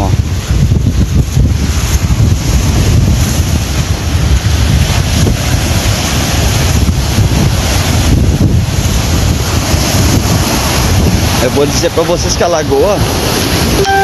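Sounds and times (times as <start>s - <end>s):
small waves breaking on shore: 0.0s - 14.0s
wind buffeting microphone: 0.0s - 14.0s.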